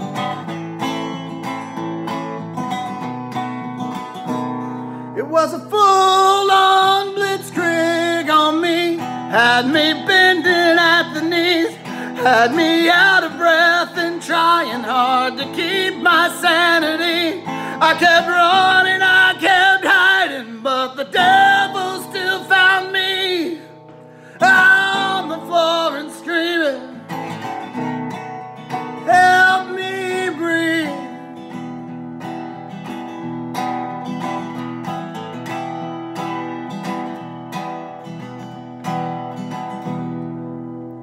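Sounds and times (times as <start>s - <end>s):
strummed resonator guitar: 0.0s - 41.0s
man singing country song: 3.8s - 38.2s.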